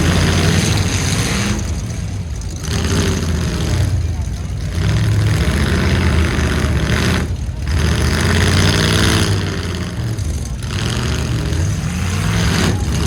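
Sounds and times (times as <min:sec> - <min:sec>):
pickup truck engines running: 0:00.0 - 0:13.0
truck engine revving: 0:00.0 - 0:13.0.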